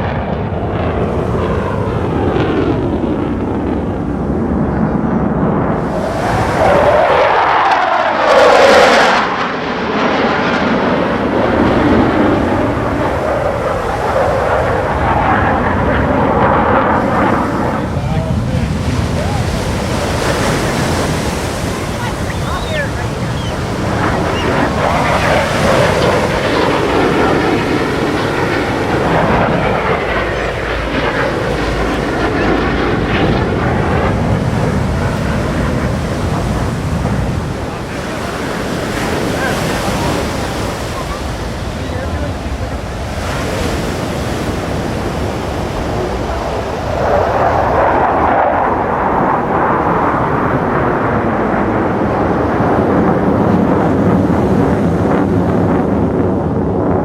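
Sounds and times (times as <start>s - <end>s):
jets passing overhead: 0.0s - 57.0s.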